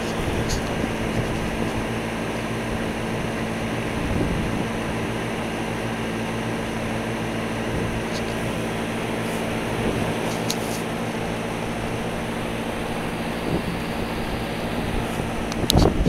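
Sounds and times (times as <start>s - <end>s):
fan air rushing: 0.0s - 16.0s
heat pump hum: 0.0s - 16.0s.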